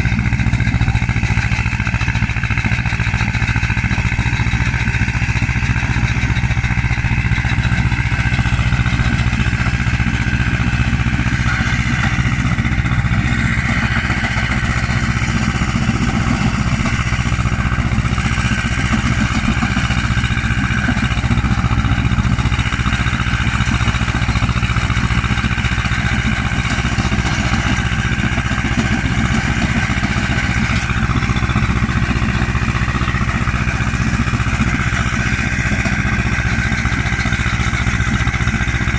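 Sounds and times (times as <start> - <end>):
stone-crushing machine running: 2.2 - 38.9.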